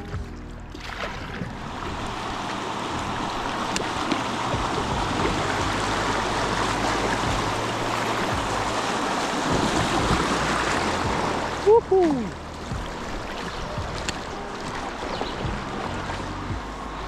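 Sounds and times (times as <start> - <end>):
river water rushing: 0.8 - 17.0.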